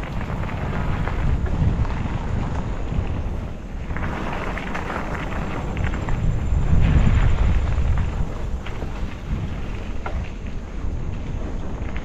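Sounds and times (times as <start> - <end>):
tyres crackling on dirt trail: 0.0 - 12.0
wind buffeting microphone: 0.0 - 12.0.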